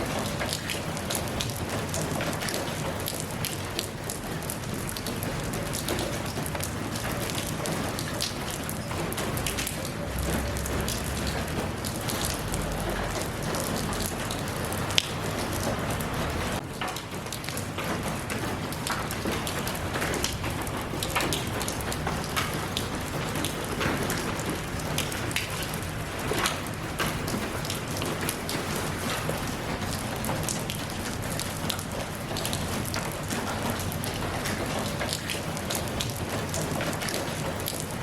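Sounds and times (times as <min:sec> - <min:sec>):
rain pattering on a surface: 0:00.0 - 0:38.0.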